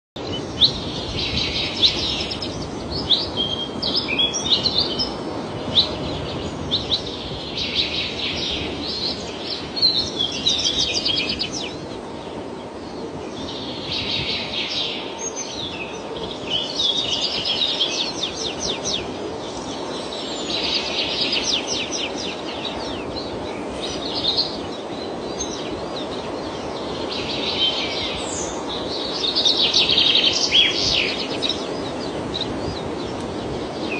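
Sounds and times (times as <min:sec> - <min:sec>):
songbird singing: 0:00.2 - 0:33.9
steady background hiss: 0:00.2 - 0:33.9.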